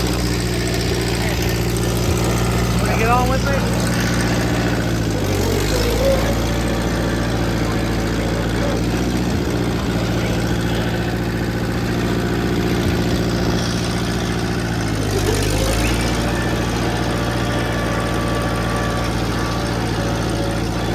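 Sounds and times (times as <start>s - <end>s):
tractor engine idling: 0.0s - 20.9s.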